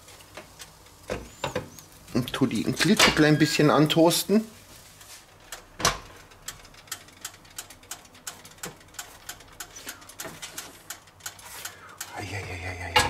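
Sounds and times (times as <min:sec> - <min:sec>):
contact grill crackling and popping: 0:00.0 - 0:13.0.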